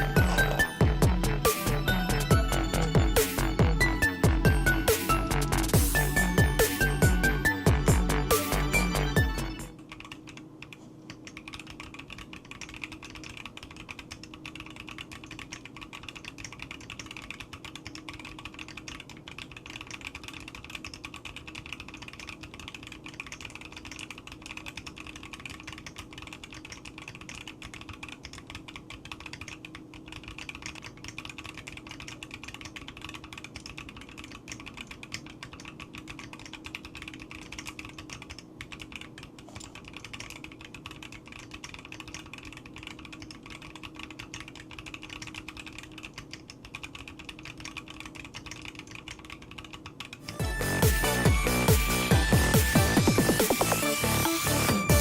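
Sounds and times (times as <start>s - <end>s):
fast typing on mechanical keyboard: 0.0s - 55.0s.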